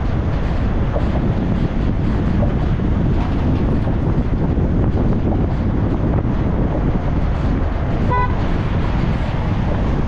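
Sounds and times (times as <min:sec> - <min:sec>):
car road noise: 0:00.0 - 0:10.0
wind buffeting microphone: 0:00.0 - 0:10.0.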